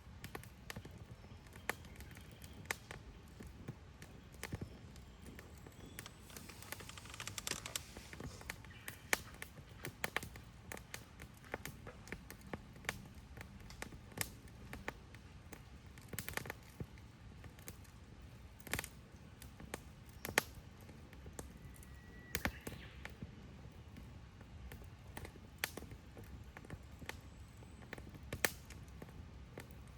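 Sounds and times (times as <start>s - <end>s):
wood campfire crackling: 0.0s - 29.9s.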